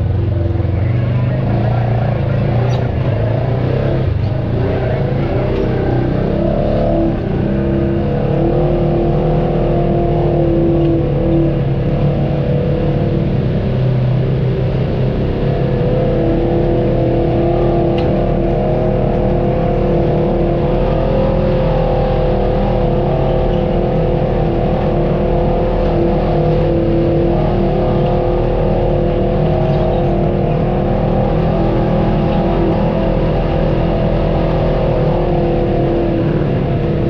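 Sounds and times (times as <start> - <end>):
off-road vehicle engine running: 0.0 - 37.0.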